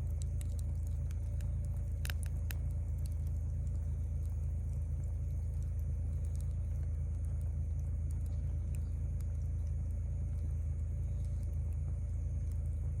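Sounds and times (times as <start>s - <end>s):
fire low rumble: 0.0s - 13.0s
wood fire crackling and popping: 0.0s - 13.0s.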